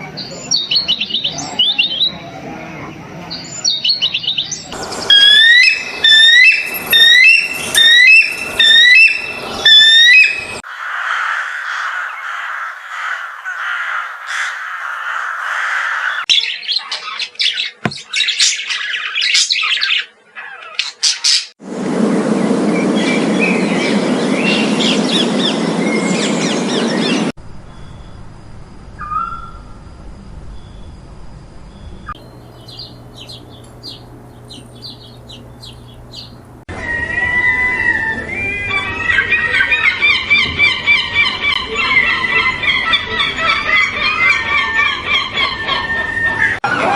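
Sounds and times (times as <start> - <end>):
birds twittering and chirping: 0.0 - 21.6, 22.7 - 28.2, 31.6 - 37.0, 37.8 - 46.9.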